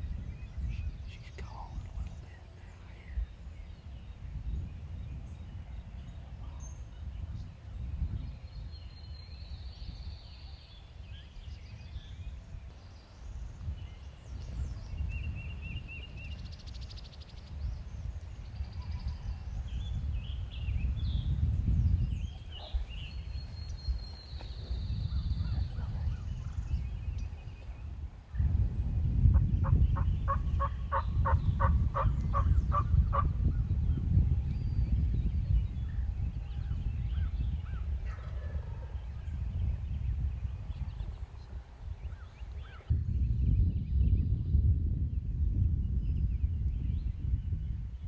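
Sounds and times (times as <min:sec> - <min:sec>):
small birds chirping and trilling: 0:00.0 - 0:44.7
wind buffeting microphone: 0:00.0 - 0:48.0.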